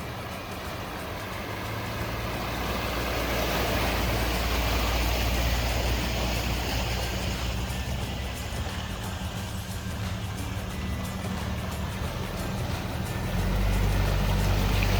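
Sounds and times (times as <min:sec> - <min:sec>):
off-road vehicle engine under load: 0:00.0 - 0:14.9.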